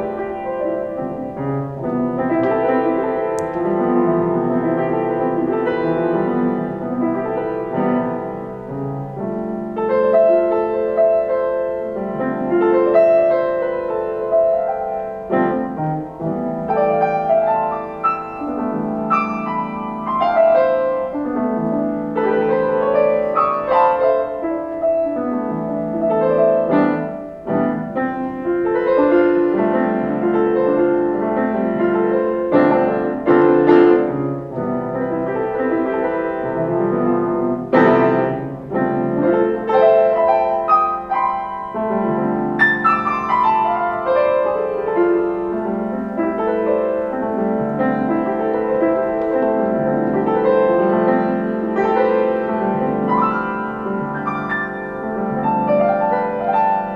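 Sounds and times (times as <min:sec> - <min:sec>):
slow piano music: 0:00.0 - 0:56.9.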